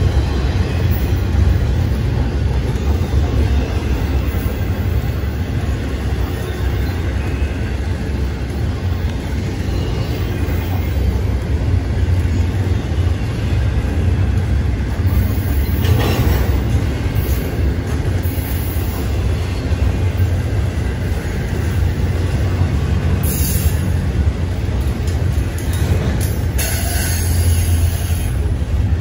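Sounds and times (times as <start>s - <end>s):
train wheels rolling on rails: 0.0s - 29.0s.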